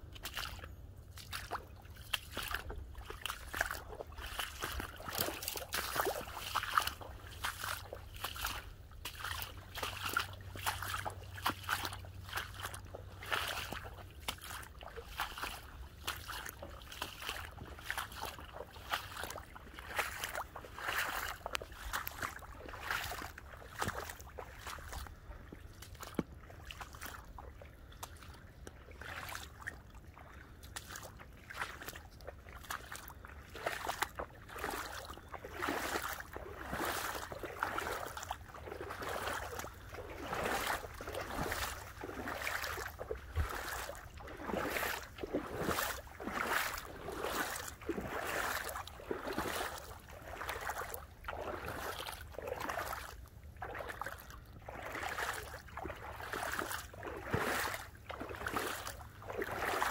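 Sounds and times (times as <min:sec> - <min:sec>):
footsteps in wet leaf litter: 0:00.0 - 0:59.9
water splashing and sloshing: 0:00.0 - 0:59.9.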